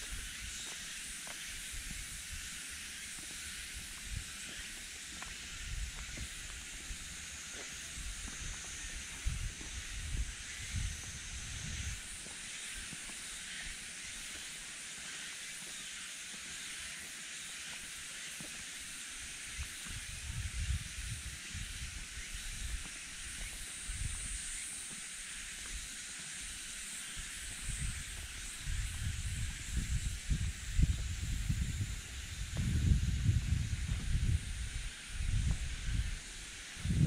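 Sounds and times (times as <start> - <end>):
high-pitched forest hiss: 0.0 - 37.0.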